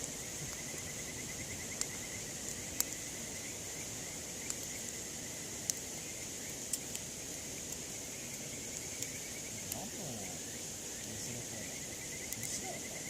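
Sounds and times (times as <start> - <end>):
campfire popping: 0.0 - 13.0
insects chirping: 0.0 - 13.0.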